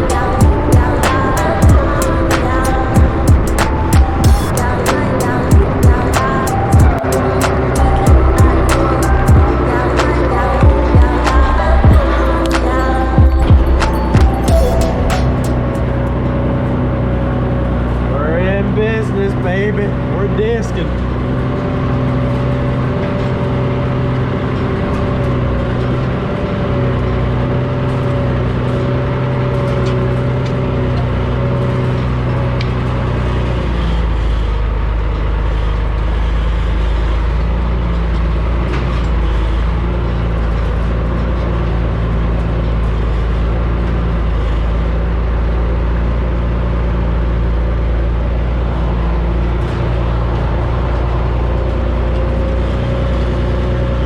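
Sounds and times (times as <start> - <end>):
truck engine running under load: 0.0 - 54.0.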